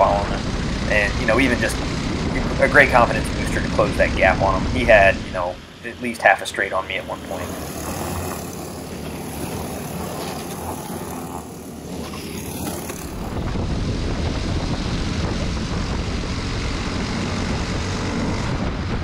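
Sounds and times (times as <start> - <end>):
kart engines passing: 0.0 - 19.0
onboard kart engine at speed: 0.0 - 19.0.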